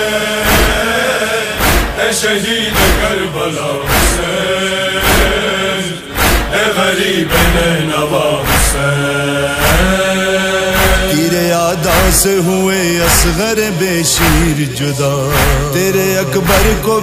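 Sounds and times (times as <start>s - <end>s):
steady thudding beat: 0.2s - 17.0s
man chanting: 2.0s - 17.0s.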